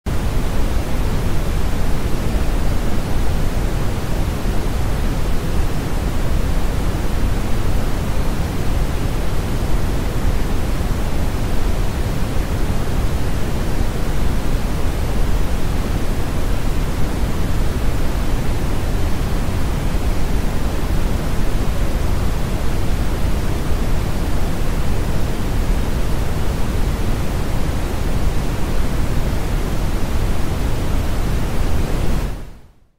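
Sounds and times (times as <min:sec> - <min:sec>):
brown noise hiss: 0:00.1 - 0:32.9.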